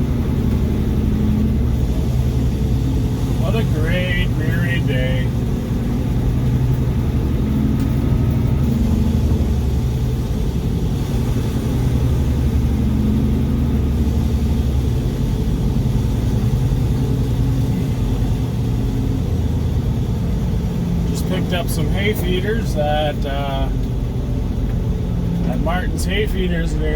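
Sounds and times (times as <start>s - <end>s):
truck diesel engine droning: 0.0s - 26.9s.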